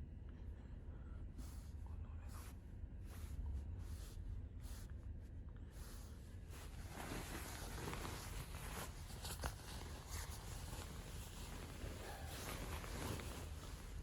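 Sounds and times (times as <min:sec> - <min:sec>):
low steady rumble: 0:00.0 - 0:14.0
rustling and handling noises: 0:01.4 - 0:14.0.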